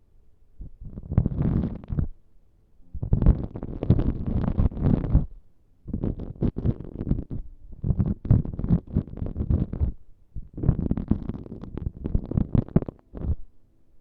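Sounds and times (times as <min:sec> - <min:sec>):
props scratching against microphone: 0:00.7 - 0:02.1, 0:03.0 - 0:05.3, 0:05.9 - 0:13.4.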